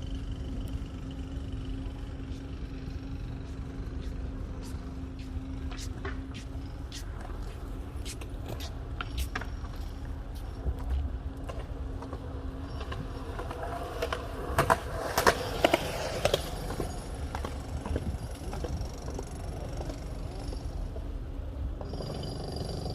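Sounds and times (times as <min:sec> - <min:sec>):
bicycle tyres and wind rumble: 0:00.0 - 0:22.9.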